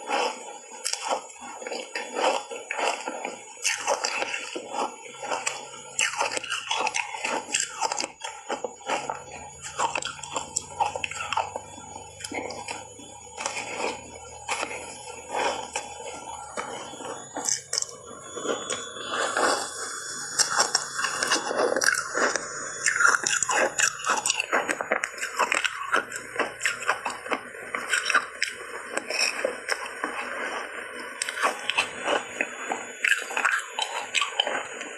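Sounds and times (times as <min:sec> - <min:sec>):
ice cubes crunching: 0:00.1 - 0:30.2.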